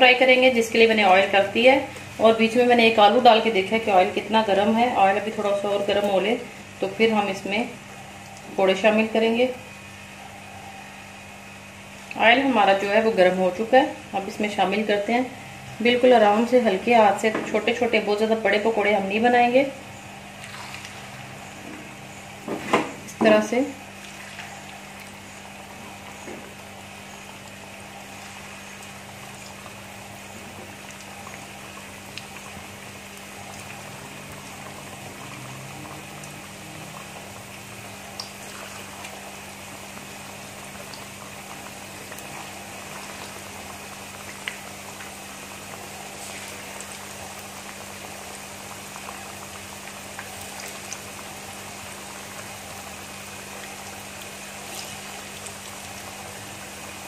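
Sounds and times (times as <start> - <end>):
oil sizzling and bubbling: 0.0 - 57.0.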